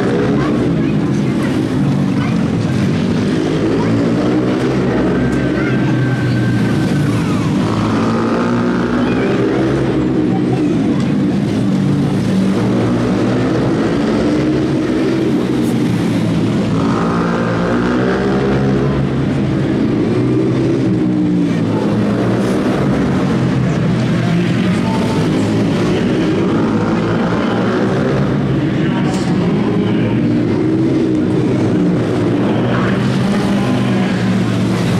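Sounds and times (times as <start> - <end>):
small atv engine racing: 0.0 - 34.9.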